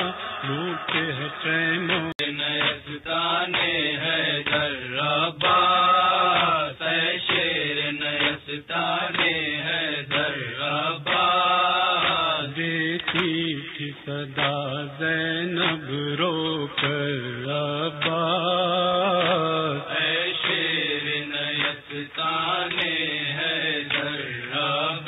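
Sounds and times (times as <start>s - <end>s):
person chanting a lament: 0.0s - 25.0s.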